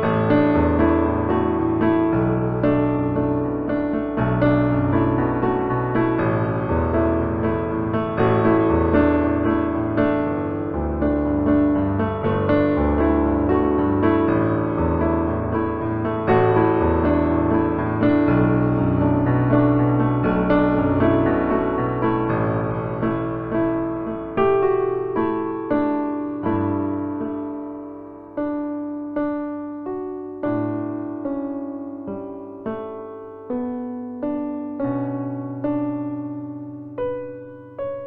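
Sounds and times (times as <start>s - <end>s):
slow gentle piano music: 0.0s - 38.0s.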